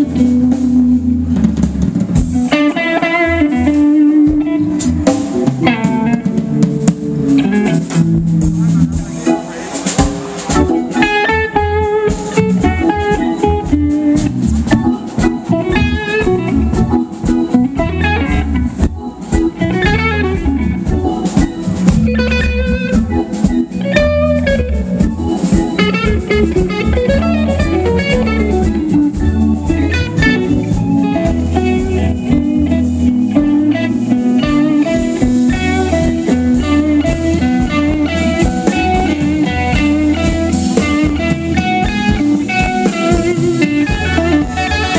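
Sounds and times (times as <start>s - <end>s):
drum kit: 0.0s - 44.9s
electric guitar bent notes: 0.0s - 44.9s.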